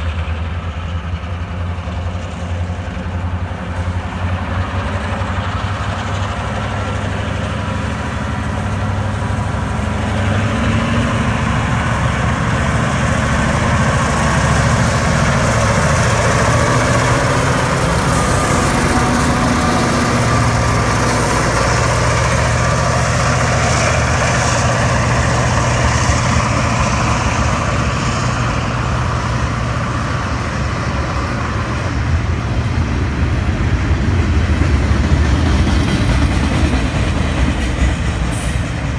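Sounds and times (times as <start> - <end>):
boxcars rattling on rails: 0.0 - 38.9
diesel locomotive engines humming: 0.0 - 38.9.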